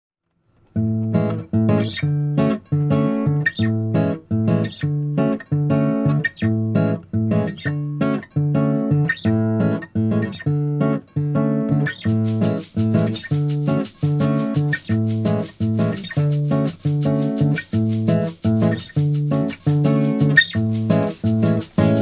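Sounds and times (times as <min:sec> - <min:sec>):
acoustic guitar strumming chords: 0:00.8 - 0:22.0.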